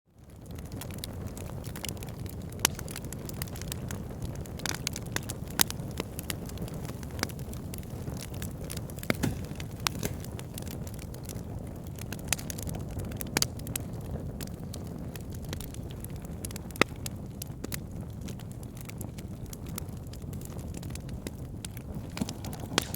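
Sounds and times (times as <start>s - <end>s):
campfire flames rumbling: 0.1s - 22.9s
burning wood crackling: 0.2s - 22.9s.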